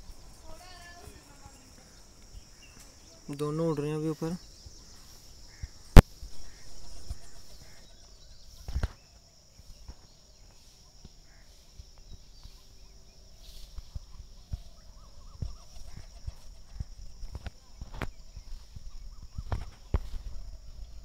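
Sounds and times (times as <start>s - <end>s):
high-pitched insect buzz: 0.0s - 21.0s.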